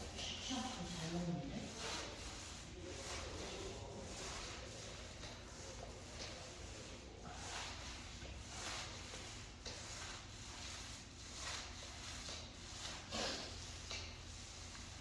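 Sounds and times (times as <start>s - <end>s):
floor coating spreading strokes: 0.0s - 15.0s.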